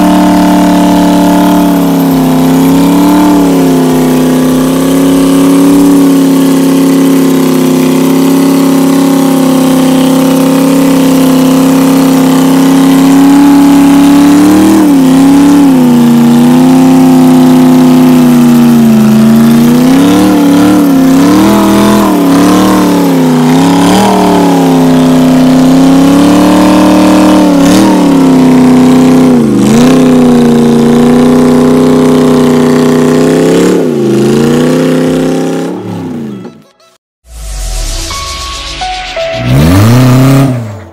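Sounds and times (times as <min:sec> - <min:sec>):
truck engine revving: 0:00.0 - 0:36.3, 0:39.2 - 0:40.9.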